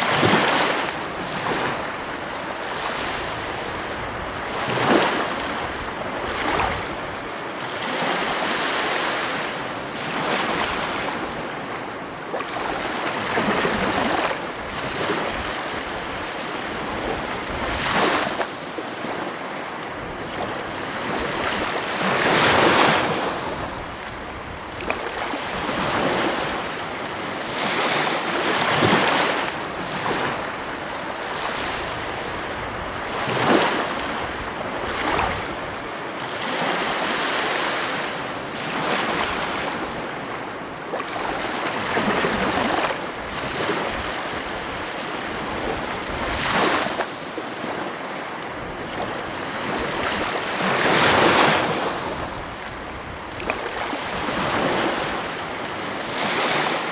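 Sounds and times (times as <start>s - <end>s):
ocean waves crashing: 0.0s - 56.9s.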